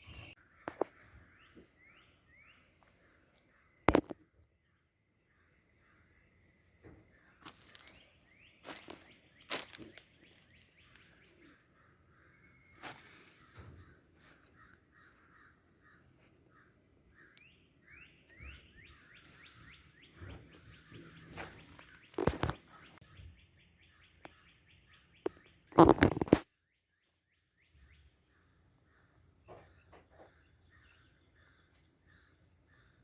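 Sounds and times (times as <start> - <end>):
birds chirping faintly: 0.0 - 33.0.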